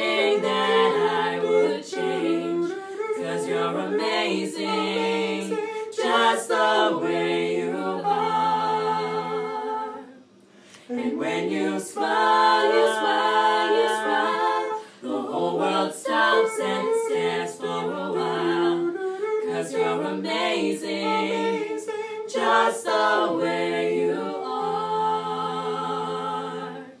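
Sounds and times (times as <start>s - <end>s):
a cappella group singing in harmony: 0.0s - 27.0s.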